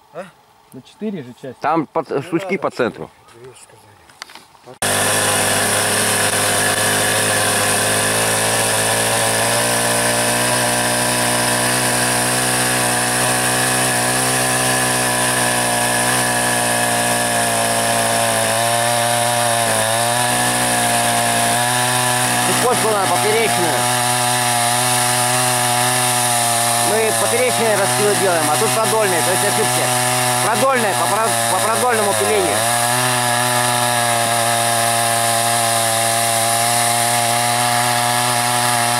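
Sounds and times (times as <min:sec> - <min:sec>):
chainsaw cutting log: 0:04.8 - 0:38.9.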